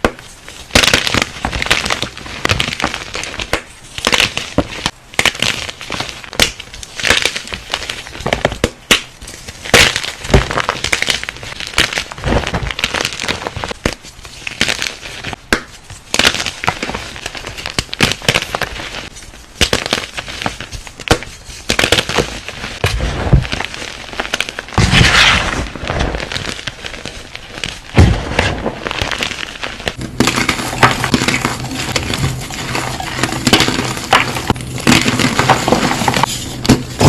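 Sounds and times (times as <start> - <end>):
crunchy material being crushed: 0.0 - 37.0.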